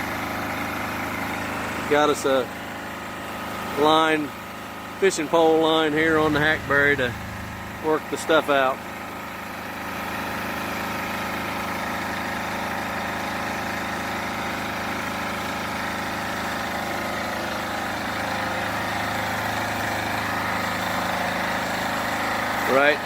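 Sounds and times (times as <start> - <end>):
large engine running: 0.0 - 23.0.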